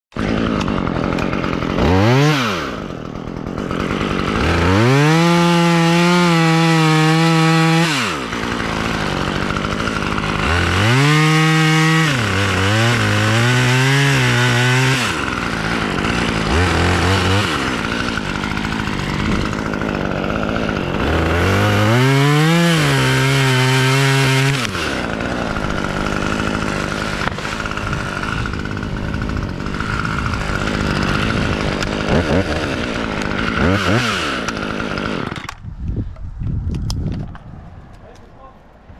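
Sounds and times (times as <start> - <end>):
chainsaw revving: 0.1 - 35.6.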